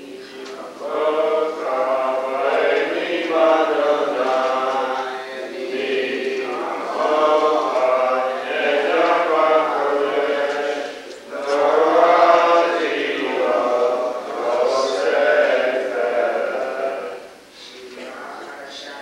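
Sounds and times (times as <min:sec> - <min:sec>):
voices chanting a prayer: 0:00.0 - 0:19.0.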